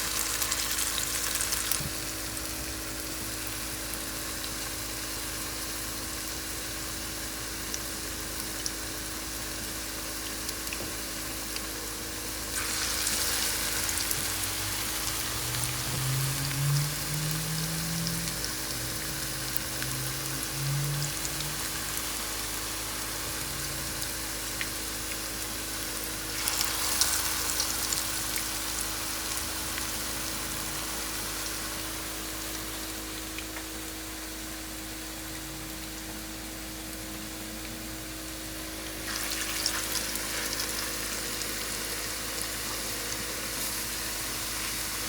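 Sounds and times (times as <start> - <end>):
food frying in hot oil: 0.0 - 45.0.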